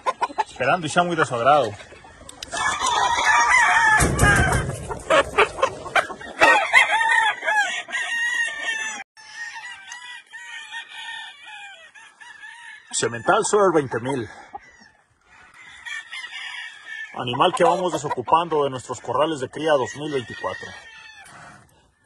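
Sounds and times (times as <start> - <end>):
roosters crowing and clucking: 0.0 - 22.0.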